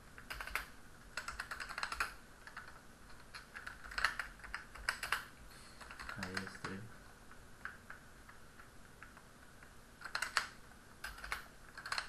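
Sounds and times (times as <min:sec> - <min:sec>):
computer keyboard typing: 0:00.2 - 0:06.8, 0:07.6 - 0:12.0.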